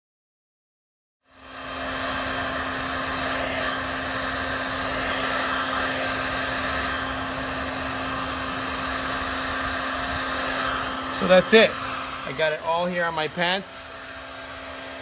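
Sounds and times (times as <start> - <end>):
heat gun blowing hot air: 1.3 - 15.0.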